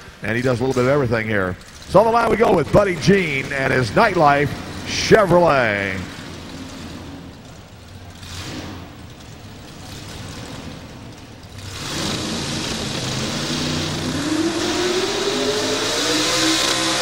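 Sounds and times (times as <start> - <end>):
truck engine idling and revving: 0.0 - 17.0.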